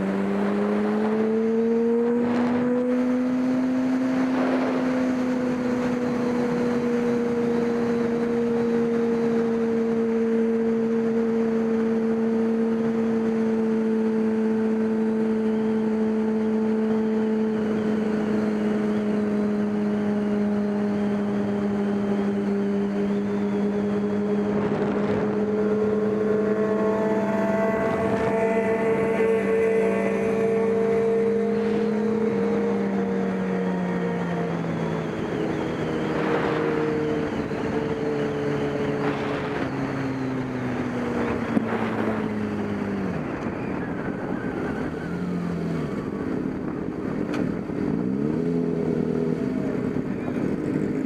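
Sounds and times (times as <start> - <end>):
engine running at high revs: 0.0 - 51.0.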